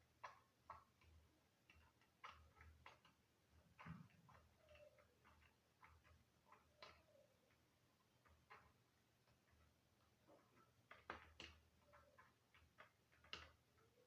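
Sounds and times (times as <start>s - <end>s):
faint clicks: 0.0s - 14.0s.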